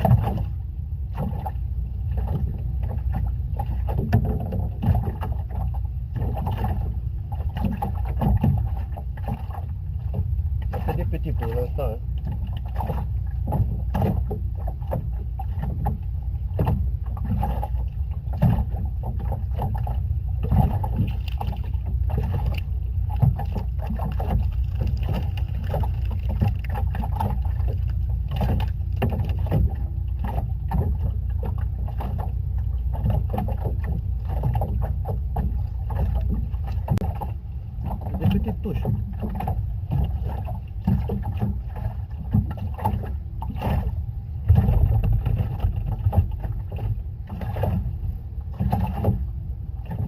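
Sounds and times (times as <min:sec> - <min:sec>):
steady low rumble: 0:00.0 - 0:50.0
water slapping against boat hull: 0:00.0 - 0:50.0.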